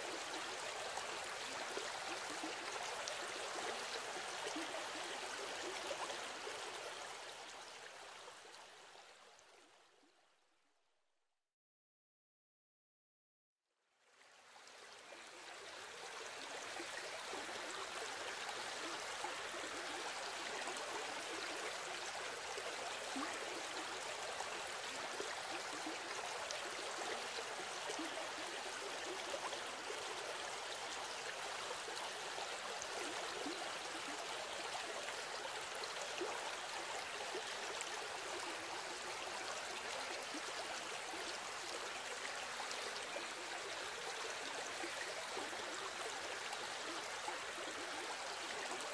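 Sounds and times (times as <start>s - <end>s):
rushing water with gurgling: 0.0s - 9.2s, 14.2s - 48.9s.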